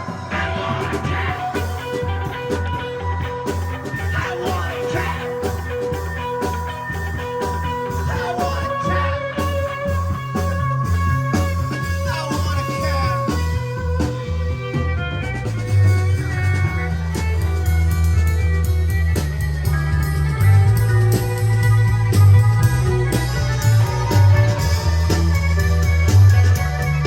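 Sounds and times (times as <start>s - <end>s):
drums: 0.0s - 27.0s
fast pulsing bass line: 0.0s - 27.0s
rock band playing: 0.0s - 27.0s.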